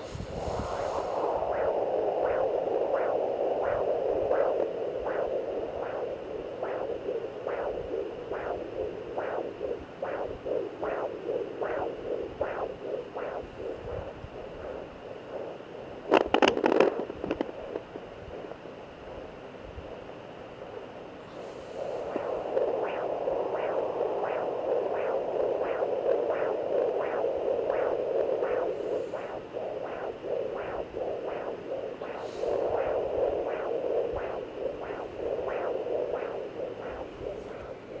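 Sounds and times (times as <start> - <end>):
rhythmic whooshing heartbeat: 0.0 - 19.4, 21.2 - 38.0
static hiss from speaker: 0.0 - 38.0.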